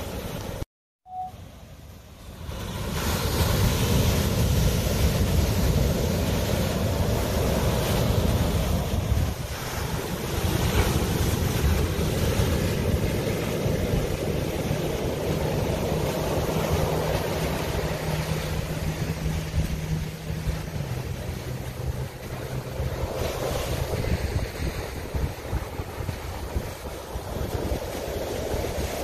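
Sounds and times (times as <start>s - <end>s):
surf breaking on beach: 2.2s - 29.0s
wind buffeting microphone: 3.0s - 29.0s.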